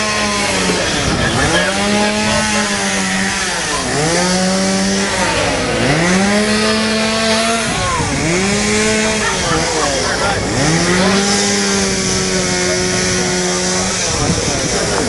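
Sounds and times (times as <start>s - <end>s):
small engine running loudly: 0.0s - 15.0s.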